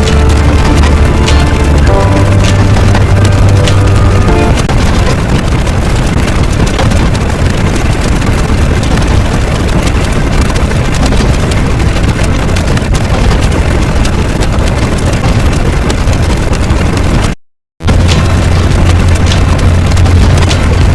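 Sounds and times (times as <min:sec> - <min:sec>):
noisy engine-like rumble: 0:00.0 - 0:17.0, 0:17.8 - 0:20.9
scattered crackles: 0:00.0 - 0:20.9.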